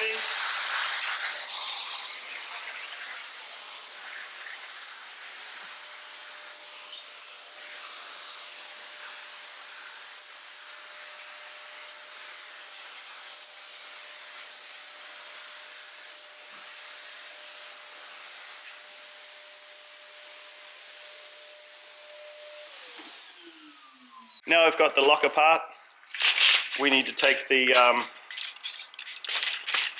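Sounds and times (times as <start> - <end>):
vacuum cleaner whining: 0.0 - 29.9.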